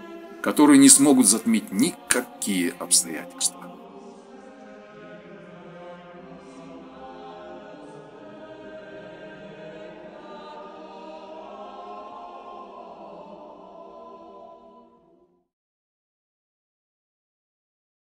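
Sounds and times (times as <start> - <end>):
slow music with held chords: 0.0 - 14.8.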